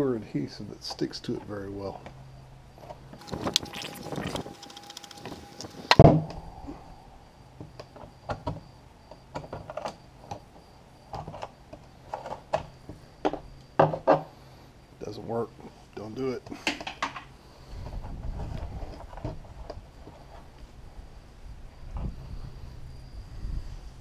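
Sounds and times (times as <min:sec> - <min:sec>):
faint high whine: 0:00.0 - 0:16.5, 0:17.2 - 0:24.0
faint steady hum: 0:00.0 - 0:24.0.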